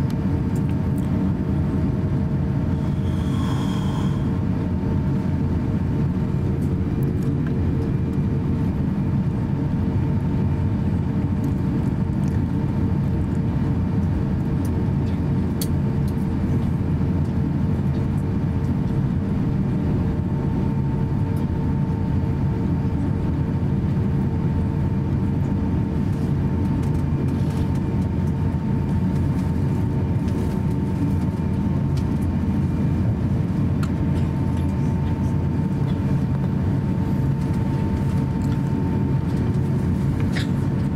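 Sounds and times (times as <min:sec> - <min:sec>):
jet engines low rumble: 0:00.0 - 0:40.9
steady cabin hum: 0:00.0 - 0:40.9.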